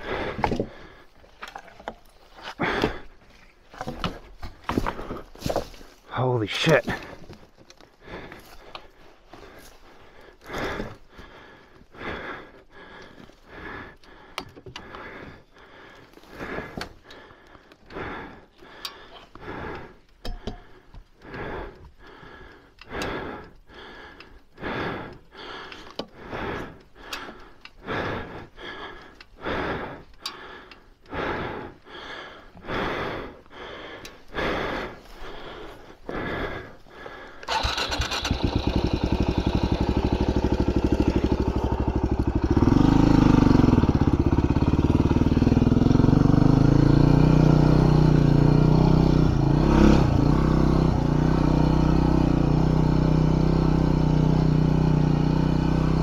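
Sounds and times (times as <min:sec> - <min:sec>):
person panting hard: 0:00.0 - 0:56.0.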